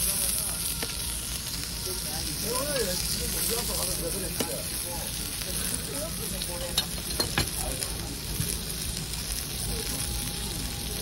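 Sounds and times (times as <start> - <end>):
pork sizzling on a grill: 0.0 - 11.0.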